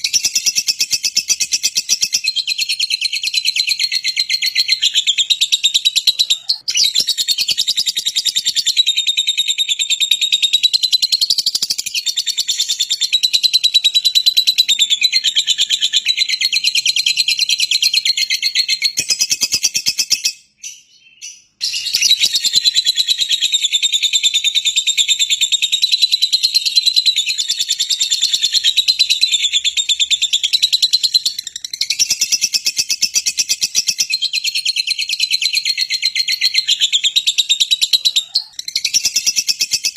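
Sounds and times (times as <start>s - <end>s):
songbird trilling song: 0.0s - 39.9s.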